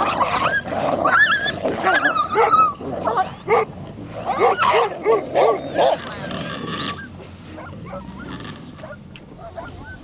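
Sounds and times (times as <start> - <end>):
dogs fighting and barking: 0.0 - 10.0.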